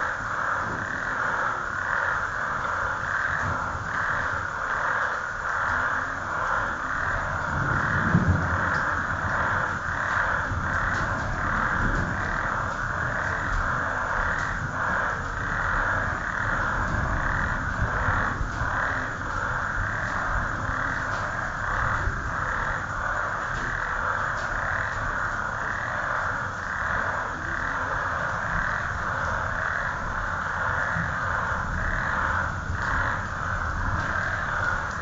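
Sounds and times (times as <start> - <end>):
frogs croaking in chorus: 0.0 - 35.0
steady low rumble: 0.0 - 35.0.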